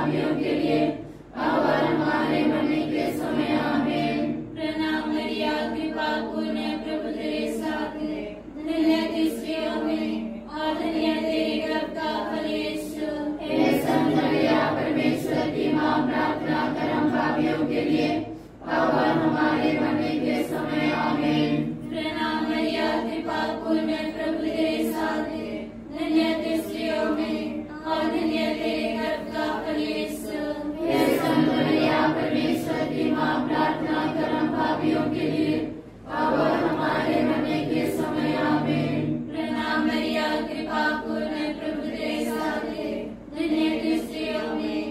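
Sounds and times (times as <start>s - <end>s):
group singing in unison: 0.0s - 44.9s.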